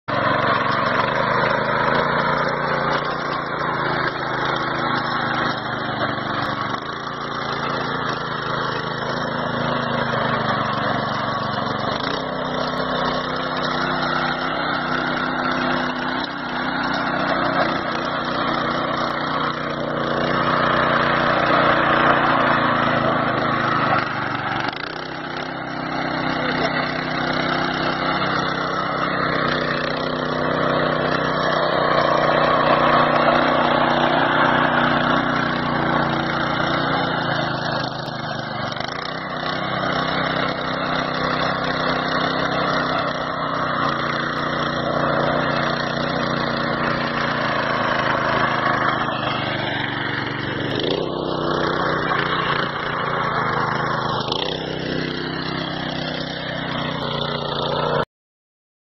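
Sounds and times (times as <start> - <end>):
tiller engine running under load: 0.0 - 58.0.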